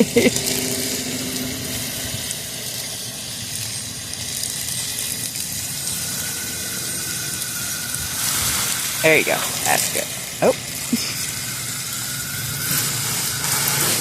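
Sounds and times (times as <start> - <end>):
water spraying on fire sizzling: 0.0 - 14.0.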